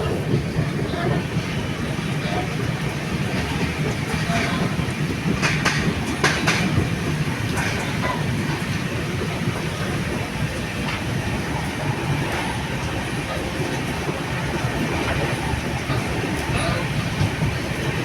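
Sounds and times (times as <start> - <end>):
train rumbling on rails: 0.0 - 18.0
wheels clicking over rail joints: 0.0 - 18.0.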